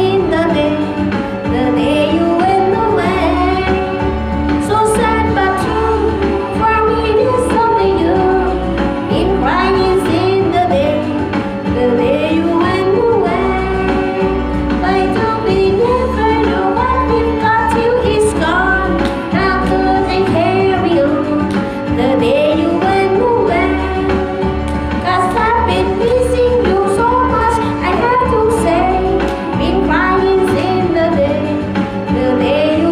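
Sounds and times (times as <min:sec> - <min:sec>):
backing music with pulsing bass: 0:00.0 - 0:32.9
woman singing into a microphone: 0:00.0 - 0:32.9.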